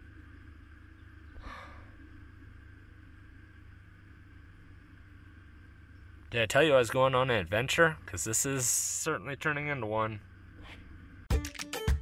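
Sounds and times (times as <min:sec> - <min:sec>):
faint low rumble: 0:00.0 - 0:11.3.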